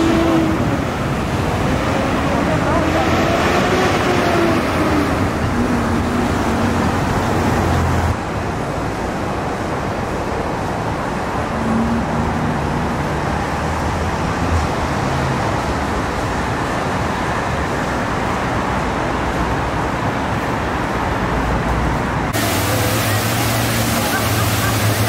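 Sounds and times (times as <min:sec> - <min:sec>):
vehicle road noise with low hum: 0:00.0 - 0:25.0.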